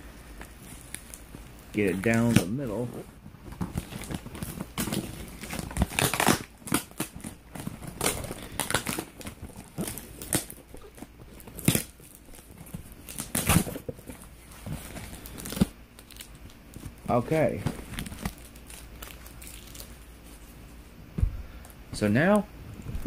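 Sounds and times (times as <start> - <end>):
packaging rustling and crinkling: 0.3 - 20.8
packaging crackling bursts: 0.4 - 20.6.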